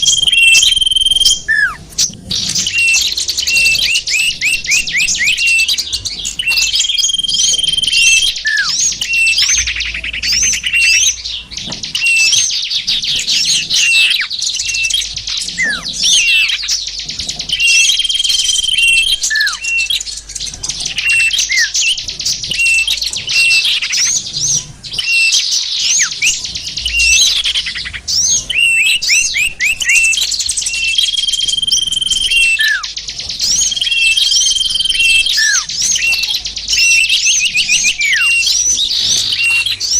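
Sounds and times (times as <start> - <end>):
held bird whistle: 0.0 - 39.9
songbirds chirping and twittering: 0.0 - 39.9.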